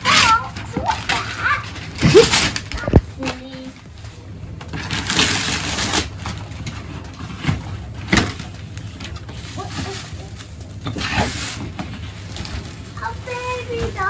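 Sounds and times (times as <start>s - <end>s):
wrapping paper crinkling and tearing: 0.0s - 14.0s.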